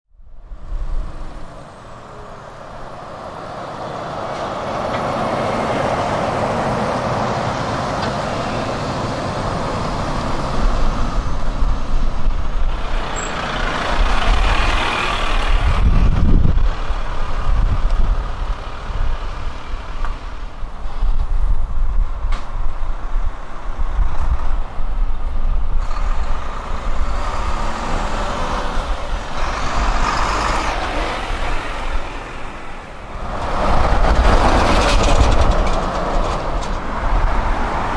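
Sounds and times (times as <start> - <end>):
lorries driving past: 0.3 - 37.9.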